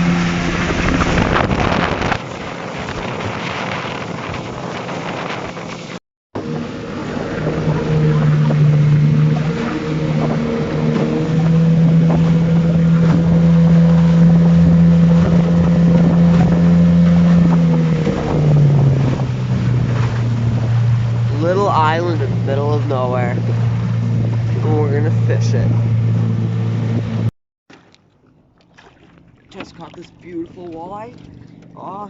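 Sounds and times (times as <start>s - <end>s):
wind rushing: 0.0s - 27.3s
outboard motor running: 0.0s - 32.0s
water rushing past: 0.0s - 32.0s.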